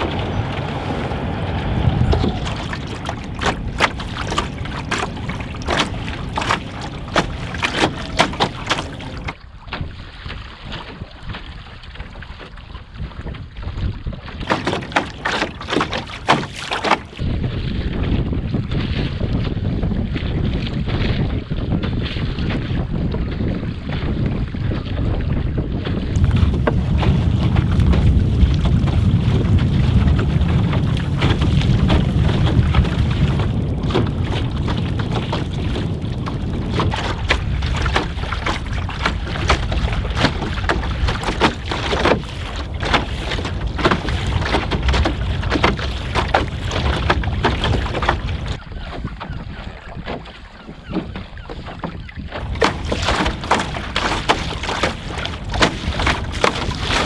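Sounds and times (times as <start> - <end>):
water slapping against canoe hull: 0.0 - 57.0
wind buffeting microphone: 0.0 - 57.0.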